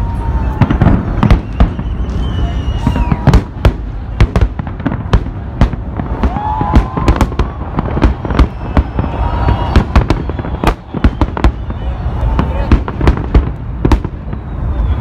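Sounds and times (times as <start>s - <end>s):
firework bangs: 0.0s - 15.0s.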